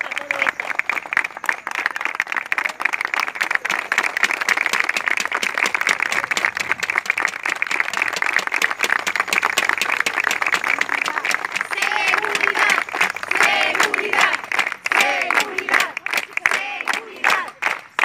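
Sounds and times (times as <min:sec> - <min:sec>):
people clapping: 0:00.0 - 0:18.0.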